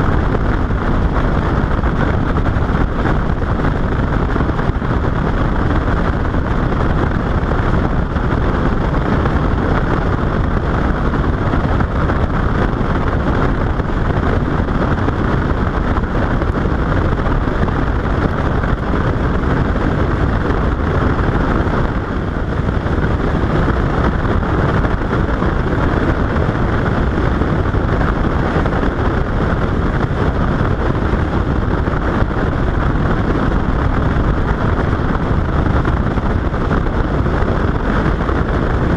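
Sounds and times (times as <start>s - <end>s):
motorboat running: 0.0s - 38.9s
wind buffeting microphone: 0.0s - 38.9s.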